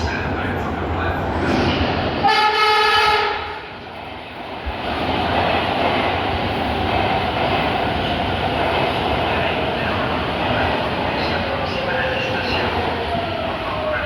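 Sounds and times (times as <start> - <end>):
train running: 0.0 - 14.0.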